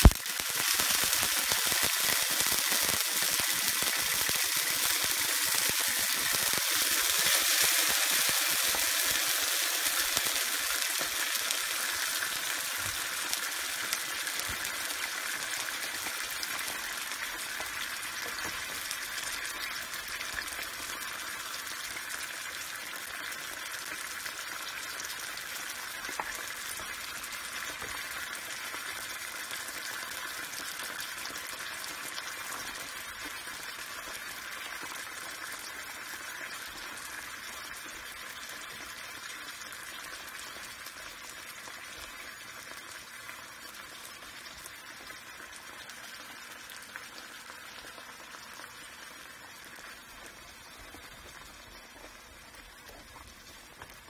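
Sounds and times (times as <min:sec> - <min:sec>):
beans bubbling in a frying pan: 0:00.0 - 0:54.0.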